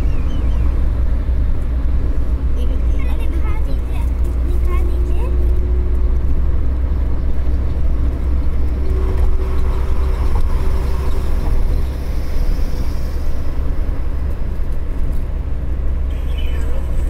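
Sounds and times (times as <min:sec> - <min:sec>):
road and engine rumble inside vehicle: 0:00.0 - 0:17.0.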